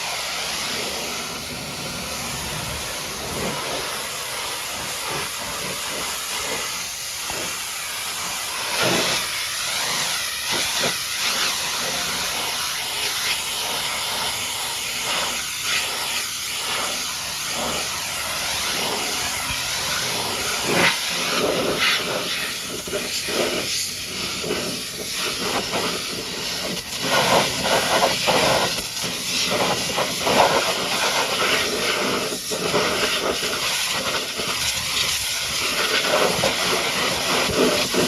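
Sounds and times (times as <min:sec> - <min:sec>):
pressure washer spraying water: 0:00.0 - 0:38.0.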